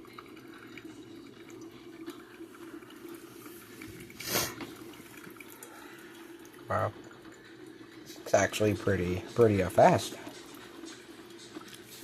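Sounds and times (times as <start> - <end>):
coffee maker bubbling and dripping: 0.0 - 12.0.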